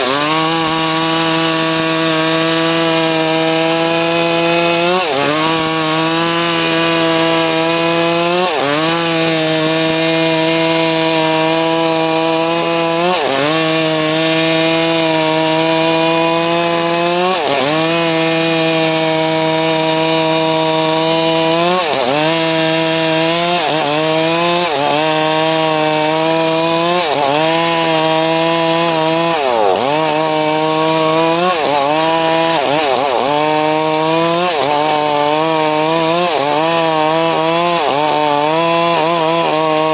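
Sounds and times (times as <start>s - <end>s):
sawmill engine cutting wood: 0.0s - 39.9s.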